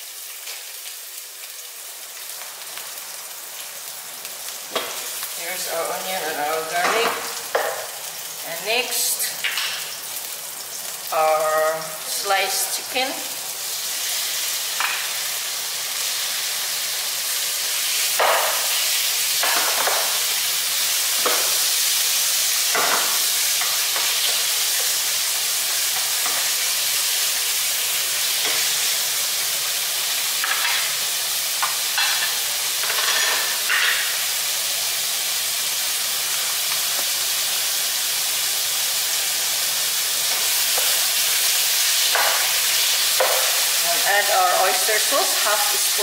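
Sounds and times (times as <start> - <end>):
chicken sizzling in a pan: 0.0 - 46.0.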